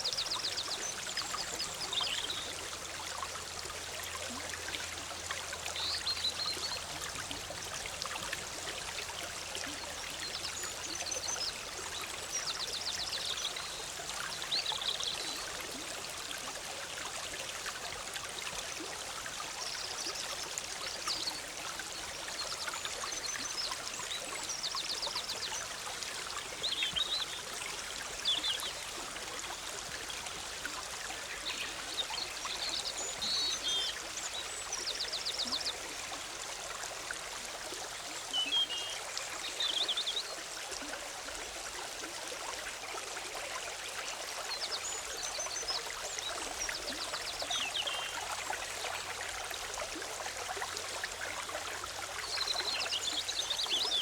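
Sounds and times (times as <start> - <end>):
stream bubbling and rushing: 0.0 - 54.0.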